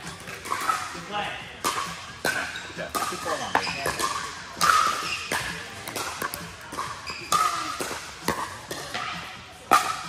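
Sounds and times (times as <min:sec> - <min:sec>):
paddles hitting plastic balls: 0:01.6 - 0:10.0.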